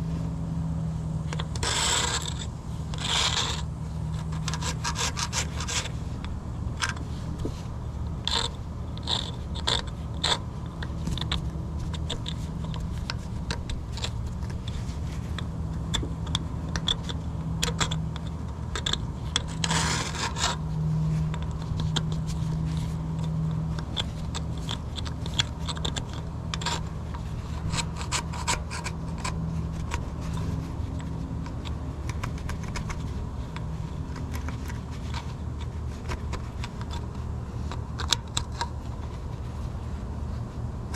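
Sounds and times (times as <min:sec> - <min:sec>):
steady low hum: 0:00.0 - 0:40.9
hand scraping on metal: 0:01.3 - 0:16.0, 0:16.6 - 0:40.9.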